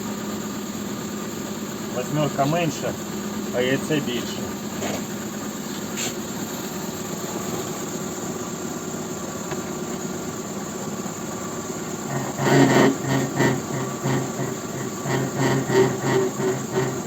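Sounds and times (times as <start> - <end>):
drivetrain mechanical hum: 0.0 - 17.0
loud mechanical pulsing: 0.0 - 17.0.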